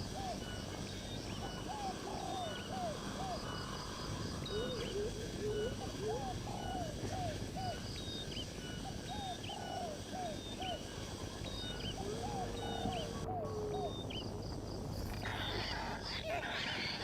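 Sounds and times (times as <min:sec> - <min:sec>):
birds calling: 0:00.0 - 0:14.4, 0:15.0 - 0:17.0.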